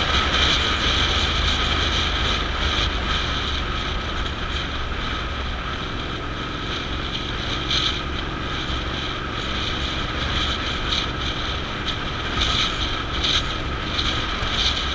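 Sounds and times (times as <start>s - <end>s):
car road noise rumble: 0.0s - 14.9s
high whine: 0.0s - 14.9s.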